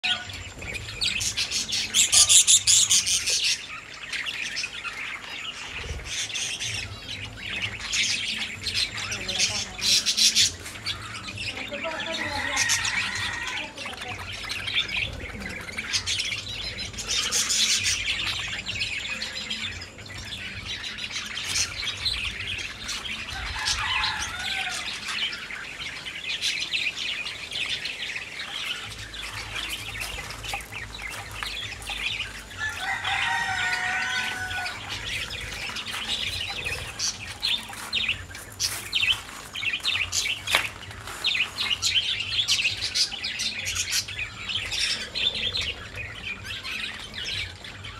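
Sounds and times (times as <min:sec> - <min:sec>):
birds chirping and twittering: 0:00.0 - 0:47.9.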